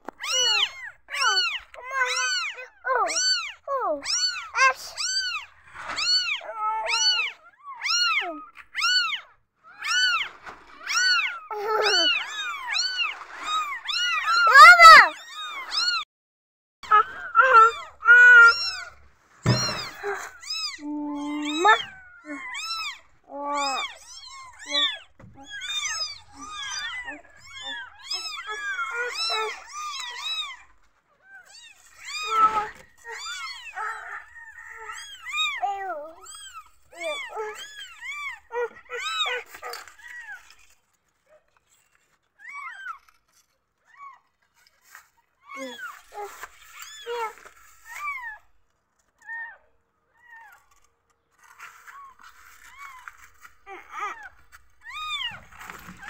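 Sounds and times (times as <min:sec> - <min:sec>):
kittens mewing: 0:00.0 - 0:16.0, 0:16.8 - 0:40.8, 0:49.1 - 0:56.0.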